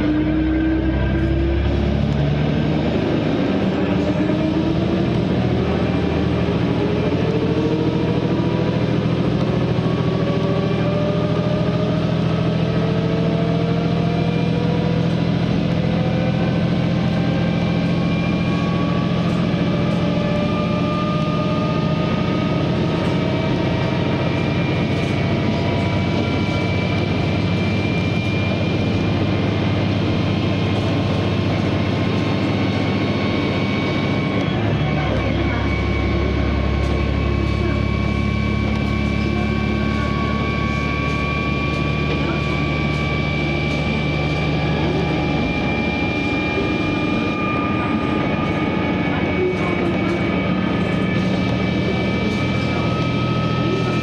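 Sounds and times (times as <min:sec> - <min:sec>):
railcar diesel engine accelerating: 0:00.0 - 0:54.0
whines climbing in pitch: 0:00.0 - 0:54.0.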